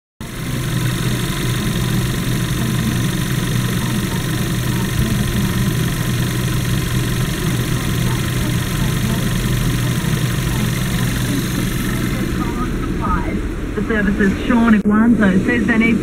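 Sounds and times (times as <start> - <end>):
car engine idling: 0.2 - 14.8.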